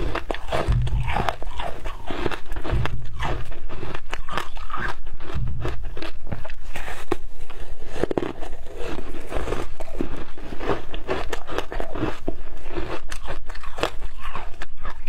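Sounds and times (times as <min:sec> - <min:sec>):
ice crunching between teeth: 0:00.0 - 0:15.0.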